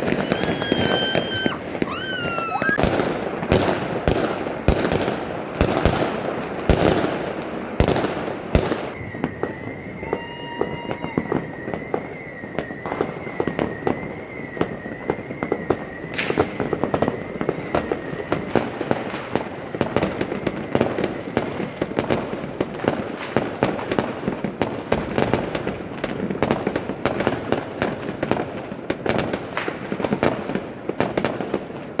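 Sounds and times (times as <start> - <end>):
fireworks and firecrackers banging: 0.0 - 32.0.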